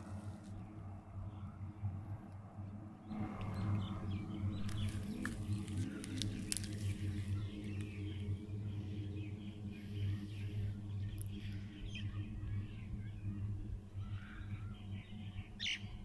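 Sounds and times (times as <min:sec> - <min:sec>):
steady low hum: 0:00.0 - 0:16.0
faint bird chirps: 0:03.0 - 0:16.0.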